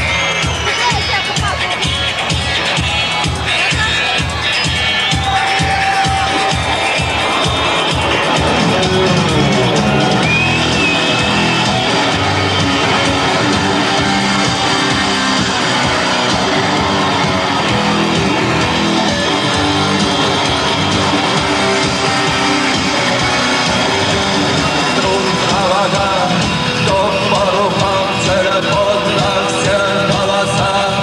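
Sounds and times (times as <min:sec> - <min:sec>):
bass line: 0:00.0 - 0:31.0
strummed electric guitars: 0:00.0 - 0:31.0.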